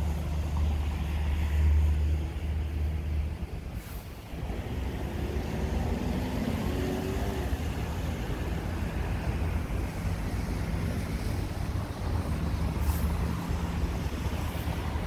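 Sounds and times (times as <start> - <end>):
cars driving on wet road: 0.0 - 15.0
wind rumble on microphone: 0.0 - 15.0.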